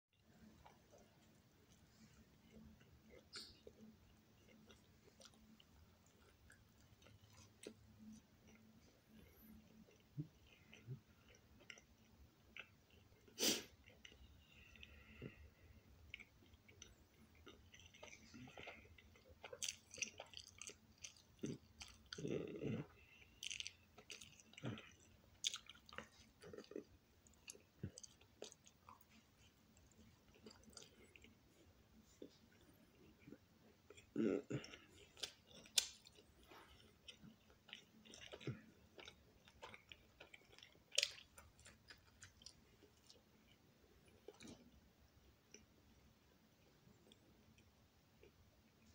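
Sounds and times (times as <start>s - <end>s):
person chewing: 0.2s - 44.8s.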